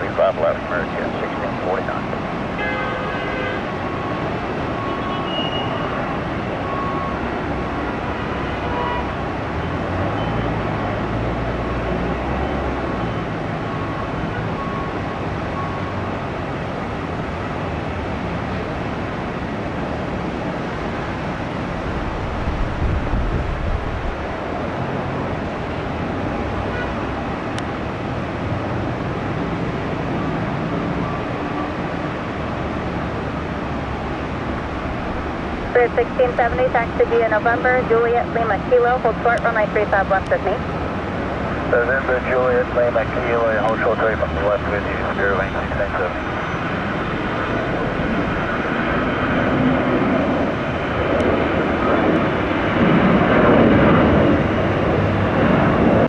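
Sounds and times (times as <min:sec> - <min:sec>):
jet engines roaring at takeoff: 0:00.0 - 0:56.0.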